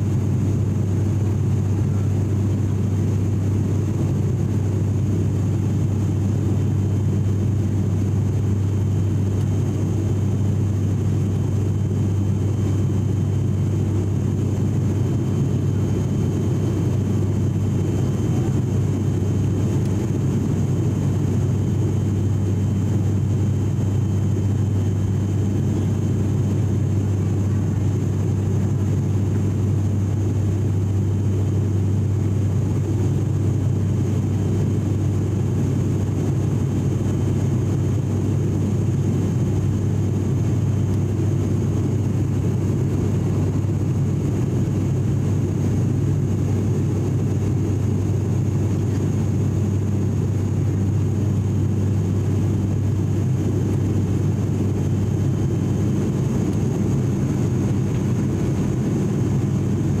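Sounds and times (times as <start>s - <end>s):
propeller engine drone: 0.0s - 60.0s.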